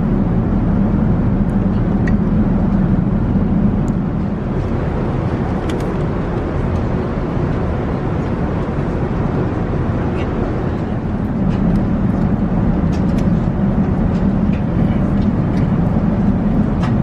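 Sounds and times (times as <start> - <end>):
airplane cabin roar: 0.0 - 17.0.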